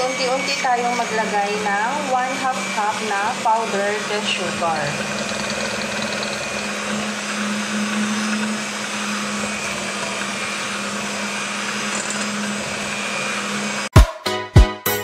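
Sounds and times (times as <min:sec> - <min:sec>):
electric hand mixer running: 0:00.0 - 0:13.9.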